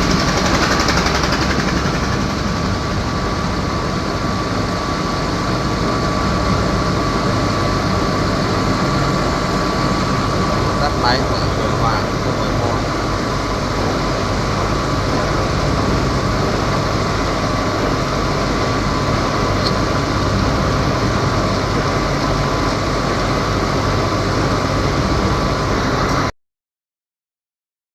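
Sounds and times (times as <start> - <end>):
metal lathe humming and whining: 0.0 - 26.3.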